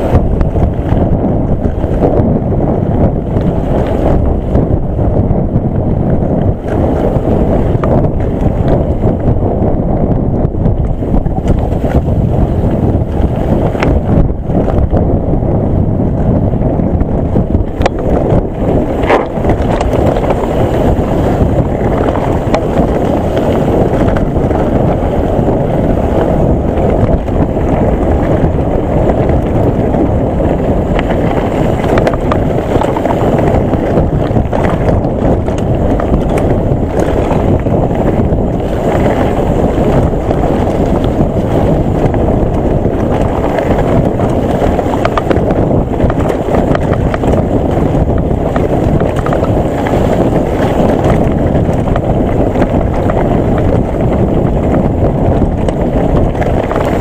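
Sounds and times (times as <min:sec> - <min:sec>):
bike knocks and rattles: 0:00.0 - 0:57.0
wind buffeting microphone: 0:00.0 - 0:57.0.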